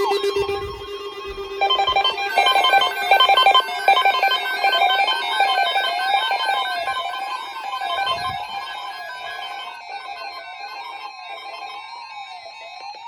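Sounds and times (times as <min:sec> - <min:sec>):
electronic alarm-like tone: 0:00.0 - 0:13.0.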